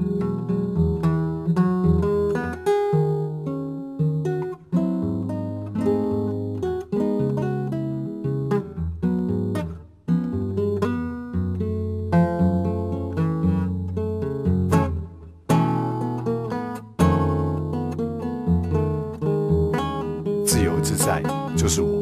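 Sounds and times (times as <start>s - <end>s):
acoustic guitar chords: 0.0s - 22.0s.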